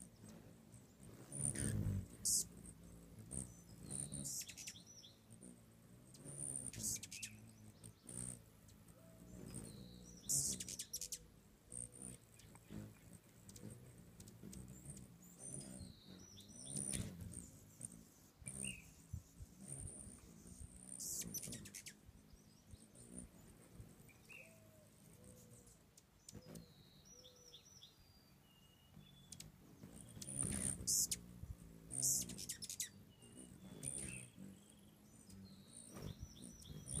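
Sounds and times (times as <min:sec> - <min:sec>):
hummingbird chip notes: 0:00.1 - 0:25.8, 0:28.6 - 0:37.0.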